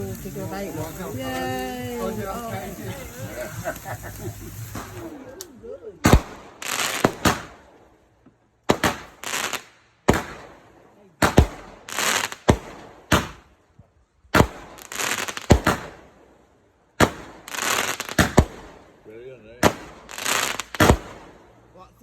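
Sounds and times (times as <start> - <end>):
fireworks sharp bangs: 0.0 - 5.3, 6.0 - 8.0, 8.6 - 13.6, 14.3 - 16.4, 17.0 - 21.8
crackling hiss: 0.0 - 22.0.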